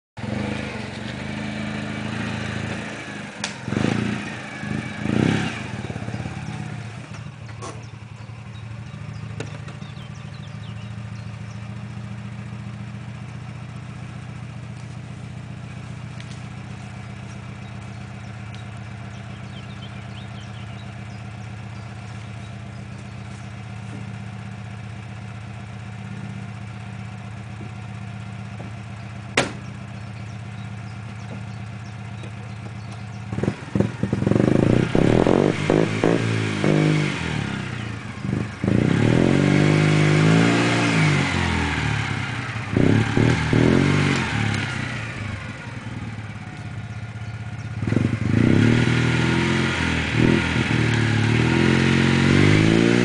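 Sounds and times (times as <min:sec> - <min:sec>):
car engine idling: 0:00.2 - 0:53.0.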